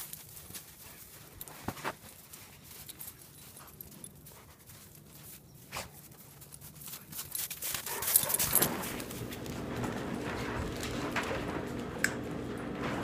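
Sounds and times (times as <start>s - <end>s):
rustling snow: 0.0s - 11.6s
dogs scuffling in snow: 0.0s - 12.4s.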